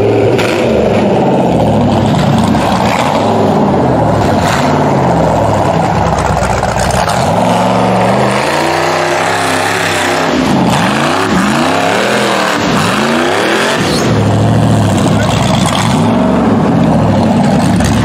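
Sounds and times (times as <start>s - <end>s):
engine revving hard: 0.0s - 18.0s.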